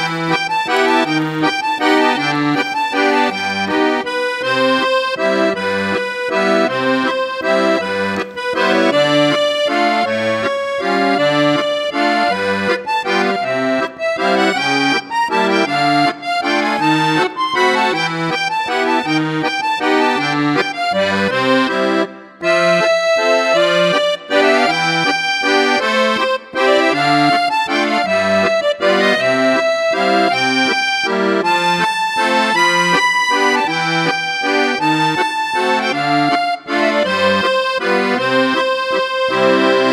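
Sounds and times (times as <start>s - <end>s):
instrumental background music: 0.0s - 39.9s.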